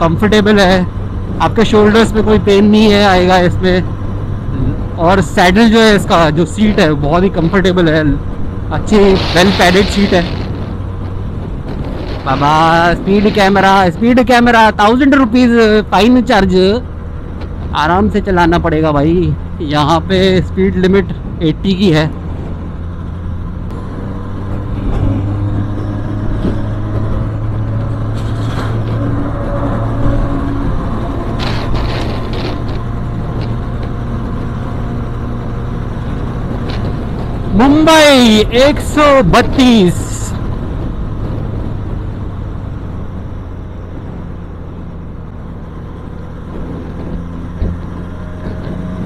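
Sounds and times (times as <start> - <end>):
wind and road noise: 0.0 - 49.0.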